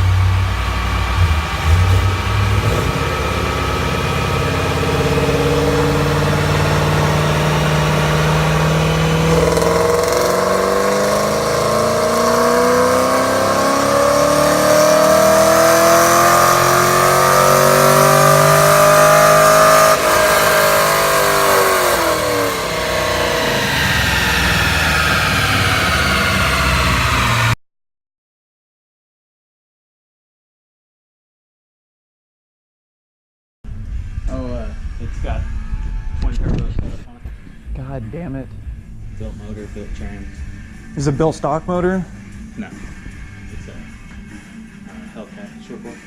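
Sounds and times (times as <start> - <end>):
car engine revving: 0.0 - 27.6, 33.7 - 46.0.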